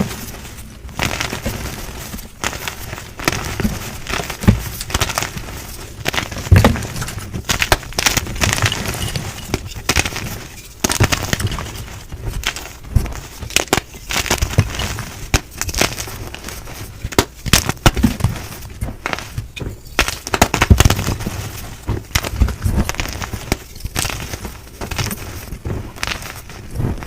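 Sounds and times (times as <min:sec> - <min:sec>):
chalk crumbling: 0:00.0 - 0:27.0
chalk crunching and cracking: 0:00.0 - 0:27.0.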